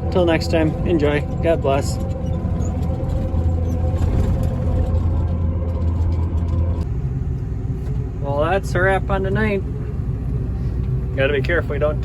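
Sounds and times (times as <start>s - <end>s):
farm machine engine humming: 0.0s - 12.0s
steady whine: 0.0s - 12.0s.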